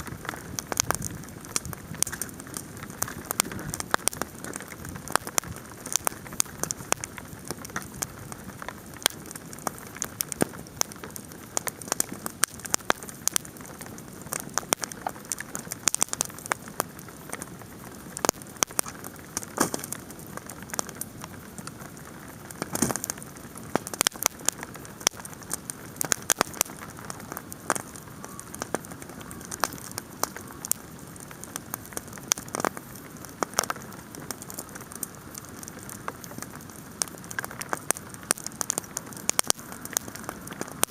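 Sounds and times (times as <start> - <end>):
campfire crackling and popping: 0.0 - 40.9
hail and rain falling: 0.0 - 40.9.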